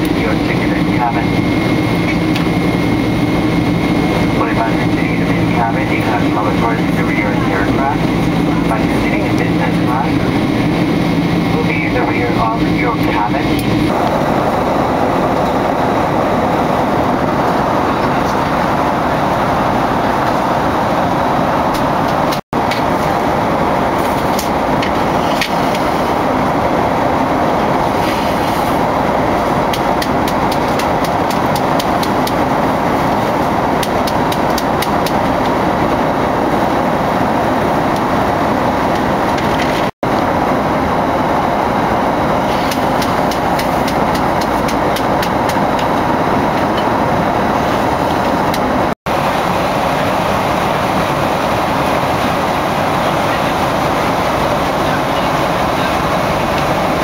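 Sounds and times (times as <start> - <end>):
jet airliner cabin roar: 0.0 - 57.0.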